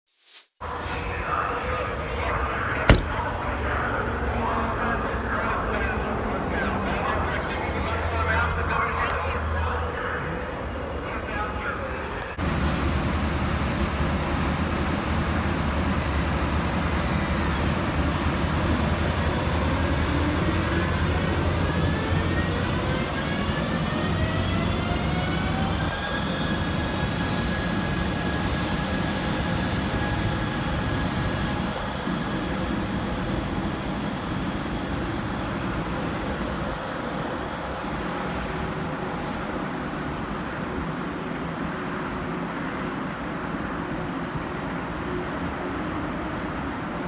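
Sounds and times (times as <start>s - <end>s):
train rumble: 0.6s - 47.0s.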